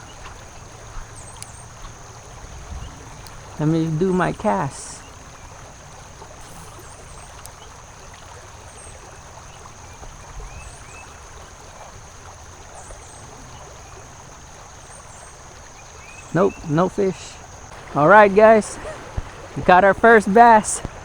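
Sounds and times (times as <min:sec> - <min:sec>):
creek water running over rocks: 0:00.0 - 0:21.0.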